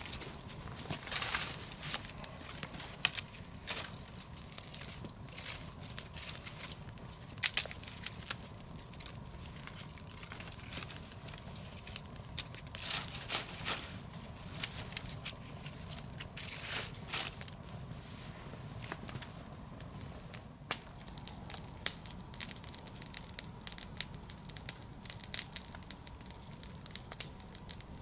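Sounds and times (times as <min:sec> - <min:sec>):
twig fire crackling and popping: 0:00.0 - 0:28.0.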